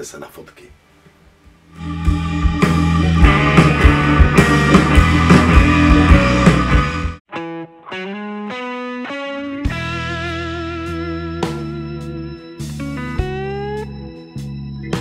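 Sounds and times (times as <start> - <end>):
plucked electric guitar notes: 1.8 - 14.3
rock music with drums and guitar: 1.8 - 15.0.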